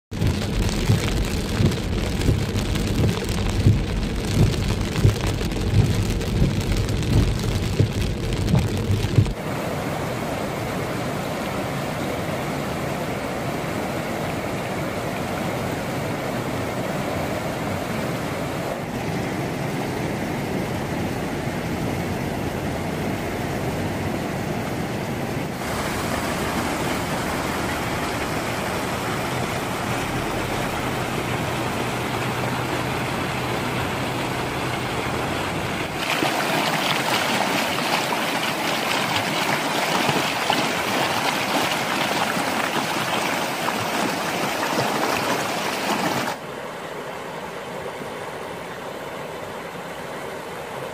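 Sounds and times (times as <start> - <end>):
flood water rushing over rocks: 0.1 - 50.9.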